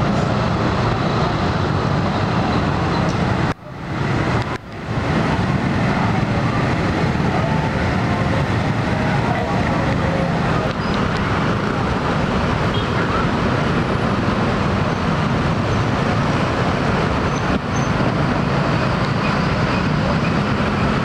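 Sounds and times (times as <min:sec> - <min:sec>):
dense street traffic: 0:00.0 - 0:21.0.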